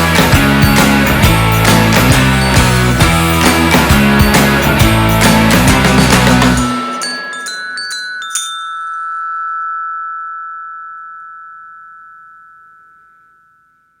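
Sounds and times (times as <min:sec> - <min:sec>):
chime-like instrument ringing: 0:00.0 - 0:14.0.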